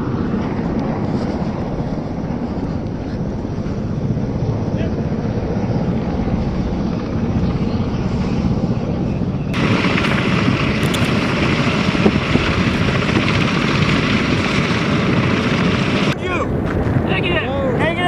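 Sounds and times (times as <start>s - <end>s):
aircraft rotors running: 0.0s - 18.0s
wind rumble on microphone: 0.0s - 18.0s.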